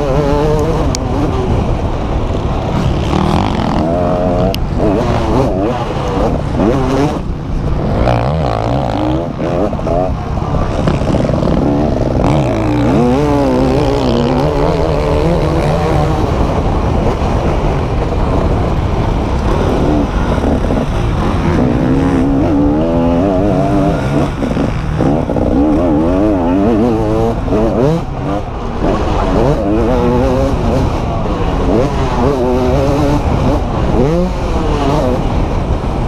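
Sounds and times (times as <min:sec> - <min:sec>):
motocross engine revving: 0:00.0 - 0:36.0.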